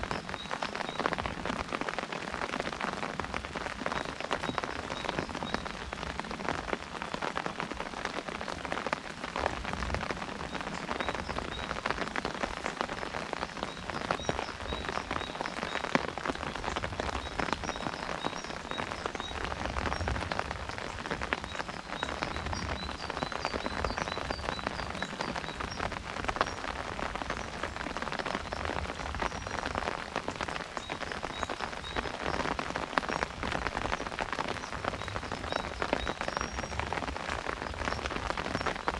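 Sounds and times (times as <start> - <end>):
rain drumming on umbrella: 0.0 - 38.9.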